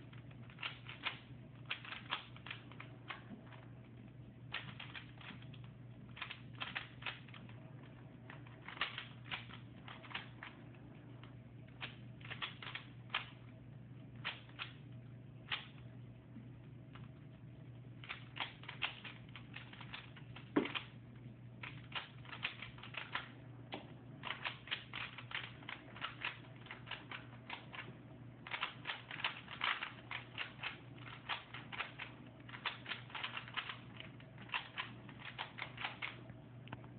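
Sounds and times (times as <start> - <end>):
puzzle cube plastic clicks: 0.0 - 3.7, 4.5 - 10.6, 11.2 - 13.4, 14.2 - 14.8, 15.4 - 15.9, 18.0 - 20.9, 21.6 - 36.9.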